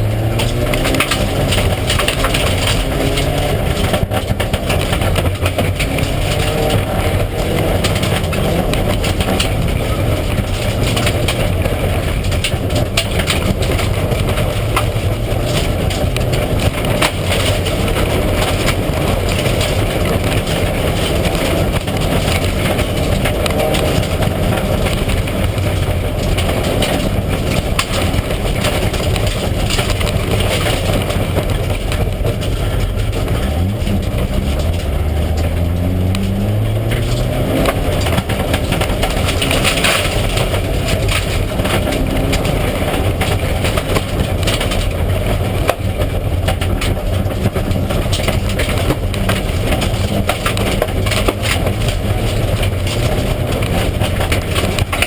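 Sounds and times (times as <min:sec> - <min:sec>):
car engine revving: 0:00.0 - 0:55.0
tyre and road noise: 0:00.0 - 0:55.0.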